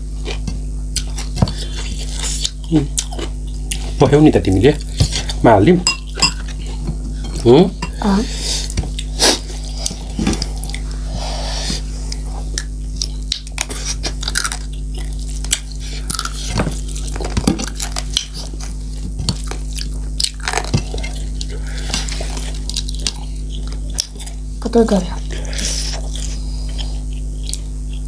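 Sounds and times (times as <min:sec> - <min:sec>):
chewing and crunching food: 0:00.0 - 0:28.0
steady low hum: 0:00.0 - 0:28.0.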